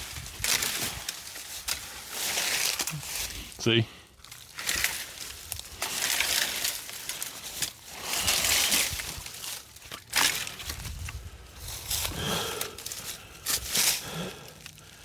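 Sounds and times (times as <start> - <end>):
leafy branches rustling and crackling: 0.0 - 15.0.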